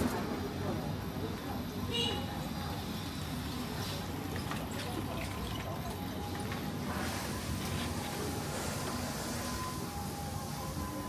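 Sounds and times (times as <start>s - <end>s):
faint music: 0.0s - 11.0s
street background hum: 0.0s - 11.0s.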